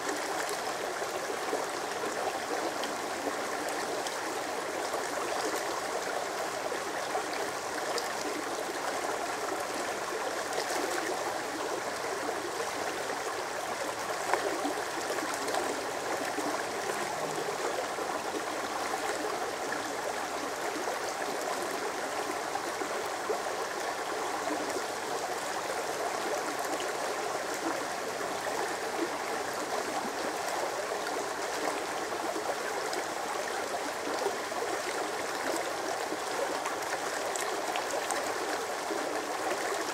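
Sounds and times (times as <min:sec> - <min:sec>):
creek babbling over rocks: 0:00.0 - 0:39.9.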